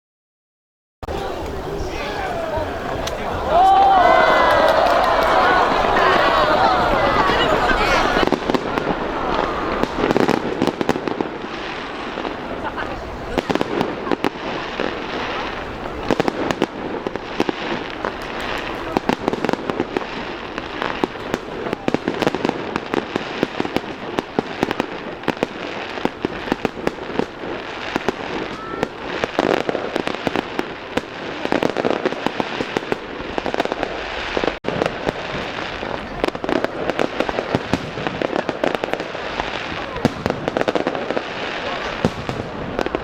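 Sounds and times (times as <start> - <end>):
fireworks bangs and crackles: 1.0 - 43.0.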